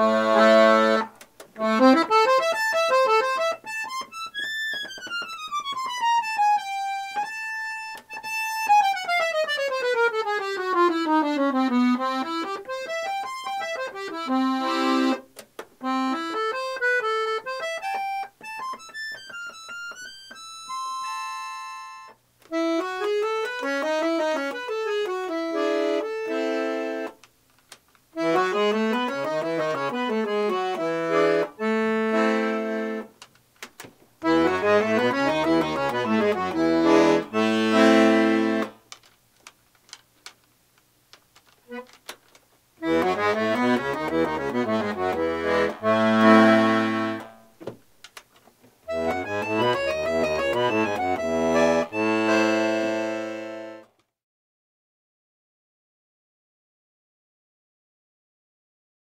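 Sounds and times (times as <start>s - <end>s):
solo accordion playing: 0.0s - 27.2s, 28.2s - 33.2s, 34.2s - 38.9s, 41.7s - 42.0s, 42.8s - 47.6s, 48.8s - 54.0s.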